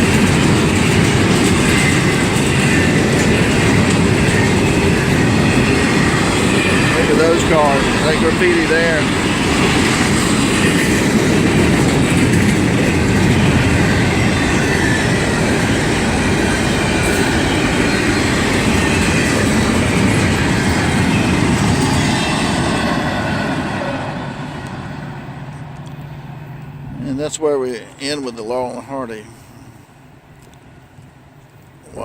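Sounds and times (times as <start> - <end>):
train wheels clattering: 0.0 - 26.8
freight train rumbling and rattling: 0.0 - 32.0.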